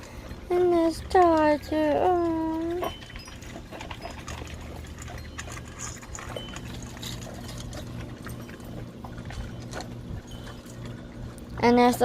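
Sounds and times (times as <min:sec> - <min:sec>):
dogs eating from bowls: 0:00.0 - 0:12.0
low steady hum: 0:00.0 - 0:12.0.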